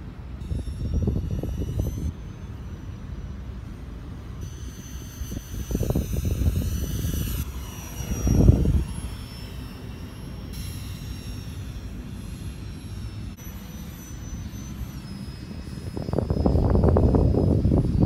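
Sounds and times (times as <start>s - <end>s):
ducted fans whining: 0.0s - 18.0s.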